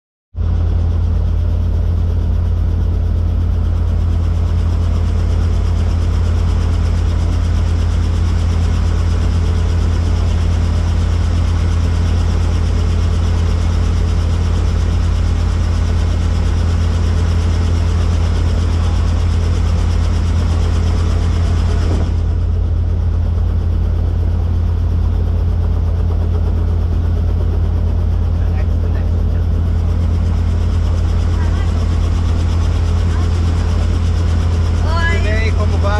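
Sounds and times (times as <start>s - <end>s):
helicopter rotor and engine drone: 0.4s - 35.9s.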